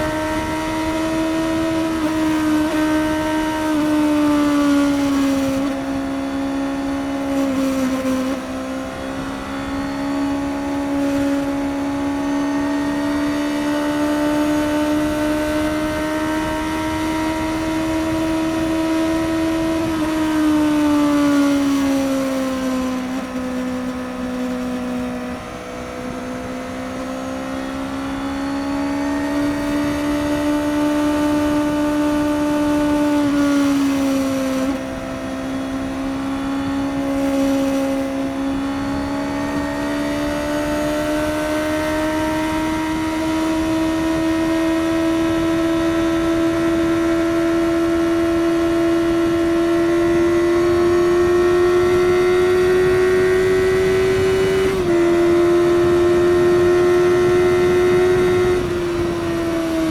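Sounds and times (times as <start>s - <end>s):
motorcycle engine at speed: 0.0s - 59.9s.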